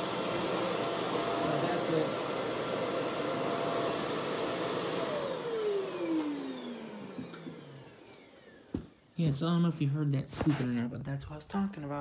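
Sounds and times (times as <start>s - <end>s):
vacuum cleaner on carpet: 0.0s - 9.7s.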